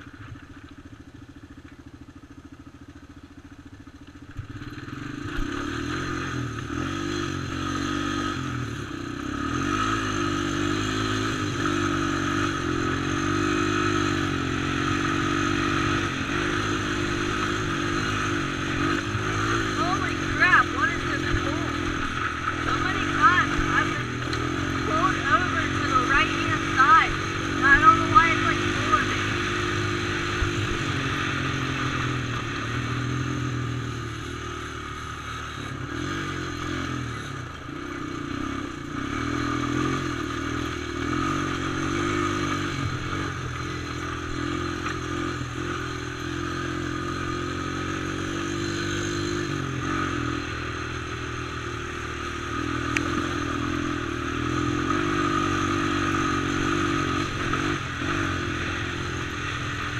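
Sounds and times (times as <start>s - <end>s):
quad engine running: 0.0s - 59.9s.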